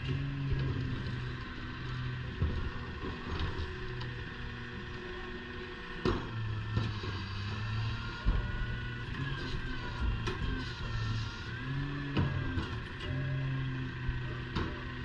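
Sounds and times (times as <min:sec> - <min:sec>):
garbage truck engine hum: 0:00.0 - 0:15.0.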